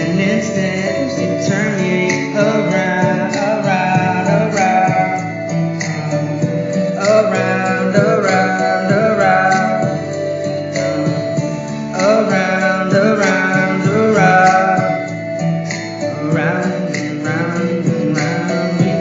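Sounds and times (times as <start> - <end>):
plucked acoustic guitar: 0.0 - 19.0
wordless melody line: 0.0 - 19.0.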